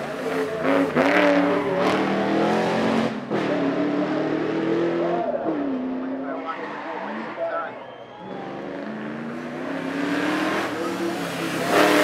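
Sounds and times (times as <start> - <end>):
race car engine accelerating hard: 0.0 - 12.0.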